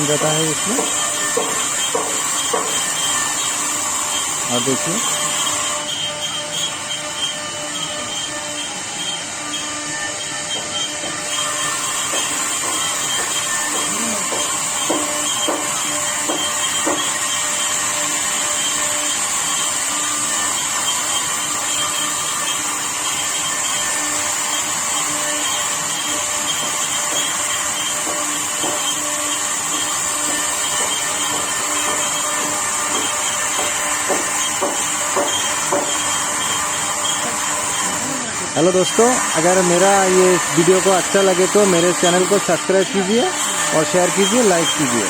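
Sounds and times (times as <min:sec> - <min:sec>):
router spindle high whine: 0:00.0 - 0:45.0.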